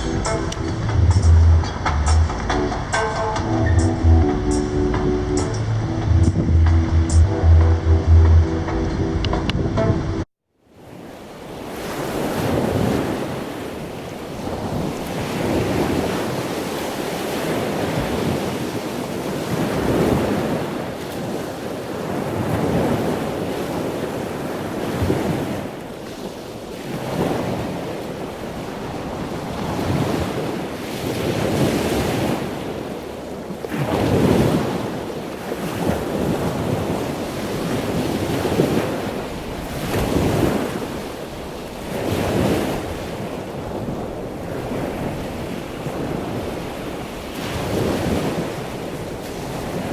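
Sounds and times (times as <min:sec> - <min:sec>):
sea rushing: 0:00.0 - 0:49.9
wind buffeting microphone: 0:04.1 - 0:10.2, 0:11.7 - 0:49.9.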